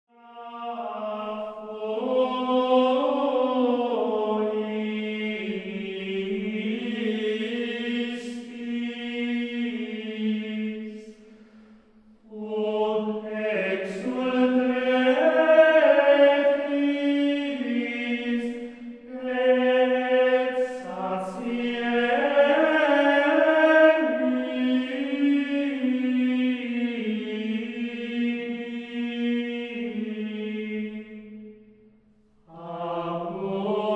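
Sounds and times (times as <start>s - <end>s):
slow chanted singing: 0.1s - 33.9s.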